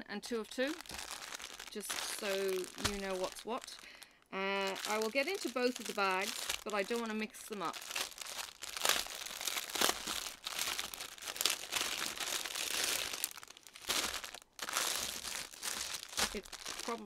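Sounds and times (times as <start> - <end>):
plastic wrap crinkling: 0.0 - 17.0.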